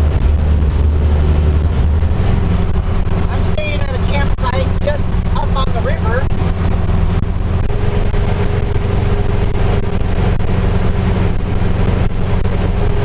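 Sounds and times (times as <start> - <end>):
road and wind noise: 0.0 - 13.0
van engine running under load: 0.0 - 13.0.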